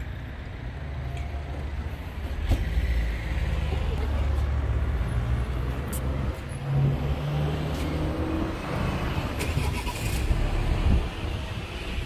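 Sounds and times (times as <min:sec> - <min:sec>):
low rumble of street noise: 0:00.0 - 0:12.0.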